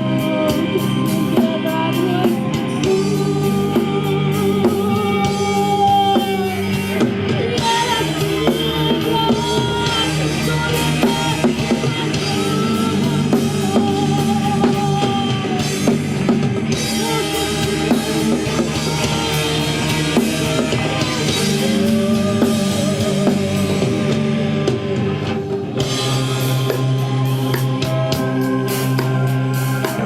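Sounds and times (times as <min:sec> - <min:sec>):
drum kit with cymbal hits: 0:00.0 - 0:30.0
held guitar and bass notes: 0:00.0 - 0:30.0.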